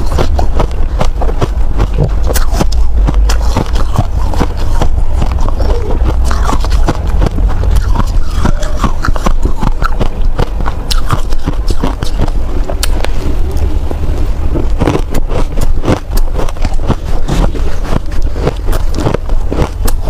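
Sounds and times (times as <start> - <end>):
ice being chewed with crunching: 0.0 - 13.7, 14.5 - 20.0
steady deep rumble: 0.0 - 20.0.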